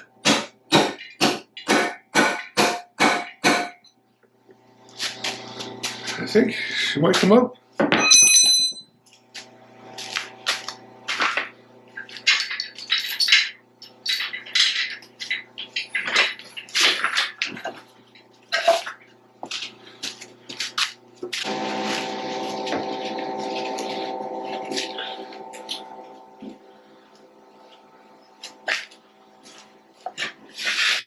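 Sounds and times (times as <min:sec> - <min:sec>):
machine hum: 0:03.9 - 0:07.8, 0:08.4 - 0:30.9.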